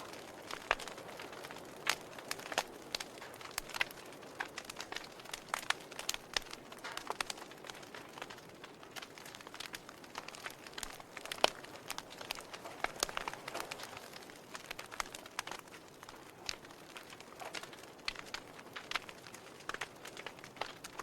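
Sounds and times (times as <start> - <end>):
log fire crackling: 0.0 - 21.0.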